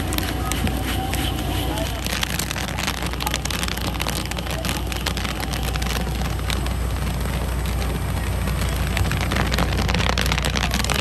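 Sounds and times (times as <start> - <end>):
popcorn kernels popping: 0.0 - 11.0.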